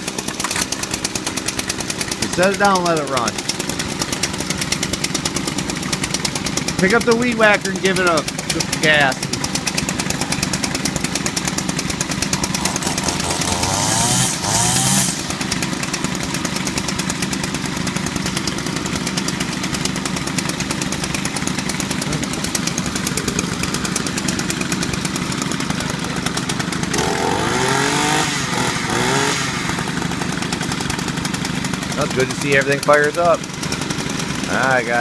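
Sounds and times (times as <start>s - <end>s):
string trimmer engine revving: 0.0s - 35.0s.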